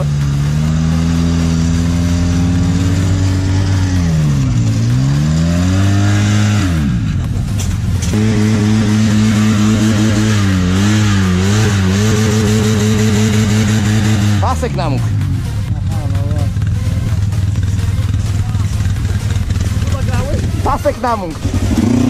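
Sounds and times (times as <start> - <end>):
quad bike engines running: 0.0 - 22.0.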